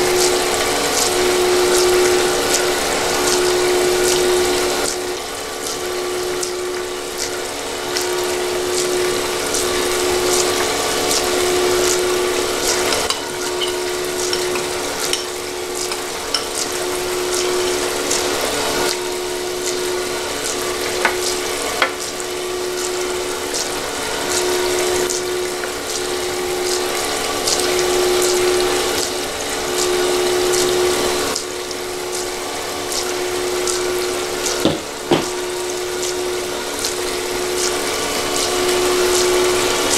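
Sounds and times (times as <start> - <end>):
machine humming: 0.0 - 39.9
water splashing into tub: 0.0 - 39.9.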